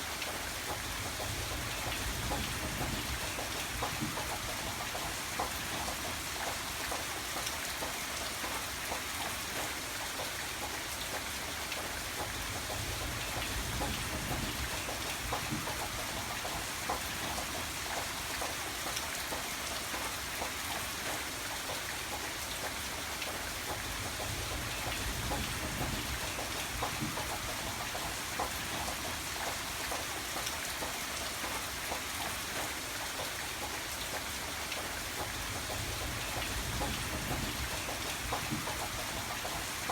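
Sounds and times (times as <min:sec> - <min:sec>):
steady rain falling: 0:00.0 - 0:39.9
raindrops ticking: 0:00.1 - 0:39.9.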